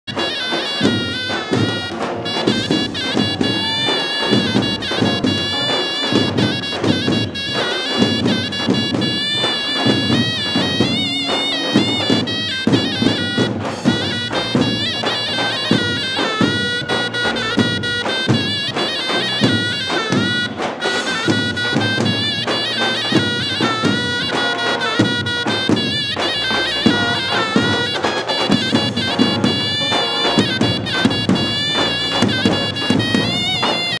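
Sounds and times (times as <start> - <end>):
loud reed wind instrument melody: 0.0 - 34.0
large drum beaten with mallet: 0.1 - 34.0.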